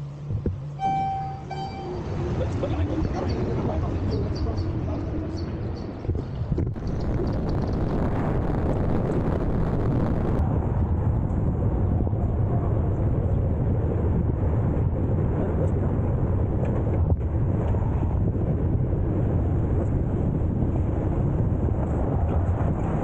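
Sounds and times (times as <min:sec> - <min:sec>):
wind buffeting microphone: 0:01.5 - 0:23.0.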